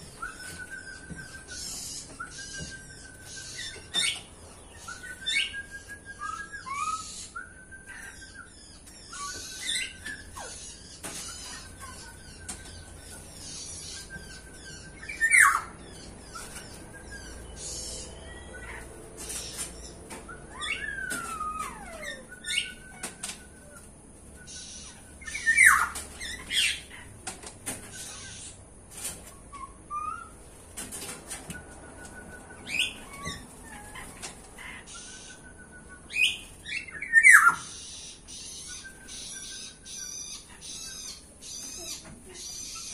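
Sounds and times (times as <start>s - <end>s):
birds whistling and calling: 0.0s - 42.9s.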